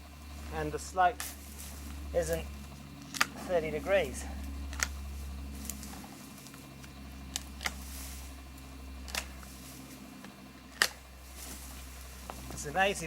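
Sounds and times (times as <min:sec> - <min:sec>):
steady low hum: 0:00.0 - 0:13.0
branches snapping: 0:01.2 - 0:12.9.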